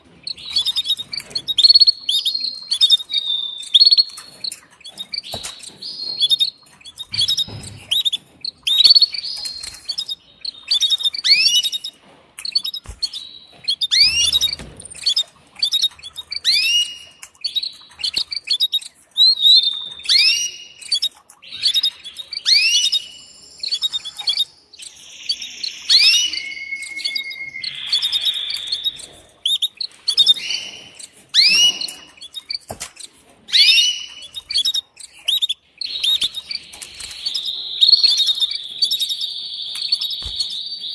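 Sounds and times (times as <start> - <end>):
canary chirping: 0.0 - 40.9.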